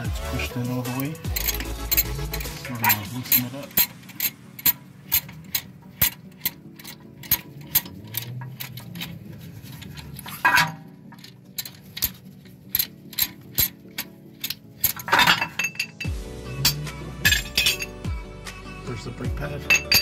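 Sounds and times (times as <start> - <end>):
metal clamp clicking: 1.3 - 17.9
metal clunk: 1.3 - 17.9.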